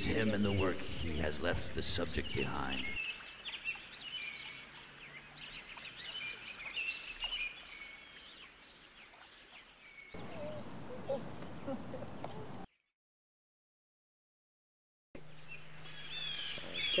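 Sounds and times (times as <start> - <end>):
birds chirping and singing: 0.0 - 12.6, 15.3 - 17.0
faint outdoor background noise: 0.0 - 12.7, 15.2 - 17.0.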